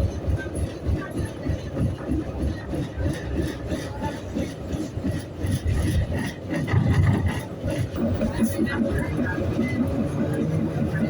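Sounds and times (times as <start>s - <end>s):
train running with rattling: 0.0s - 11.0s.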